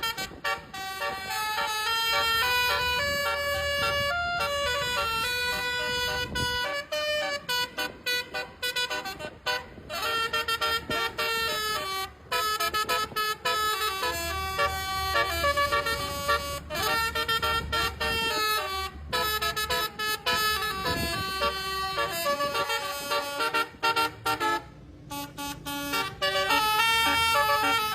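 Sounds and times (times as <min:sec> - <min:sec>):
multi-tone air horn playing a tune: 0:00.0 - 0:27.9.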